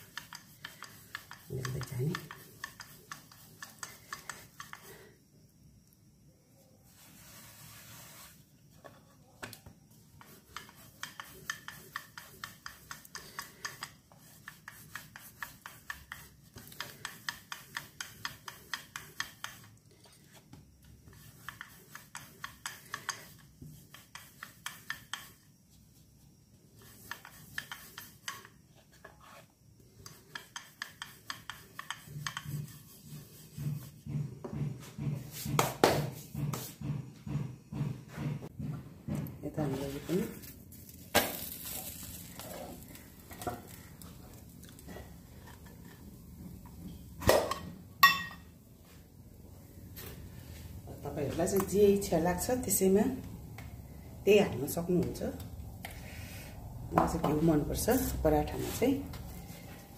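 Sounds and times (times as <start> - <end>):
rolling pin rolling dough on board: 0.0 - 5.2, 6.9 - 40.6, 41.3 - 59.9.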